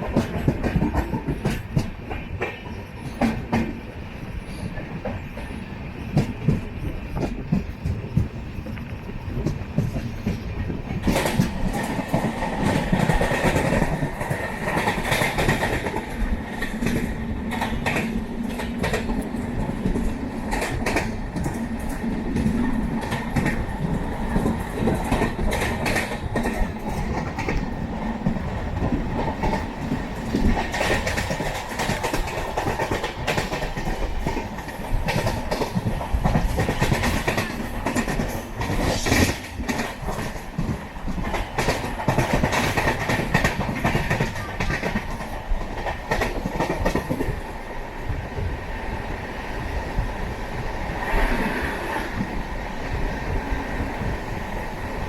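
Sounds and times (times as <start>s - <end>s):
clickety-clack over rail joints: 0.0s - 55.0s
train wheels rumbling on track: 0.0s - 55.0s.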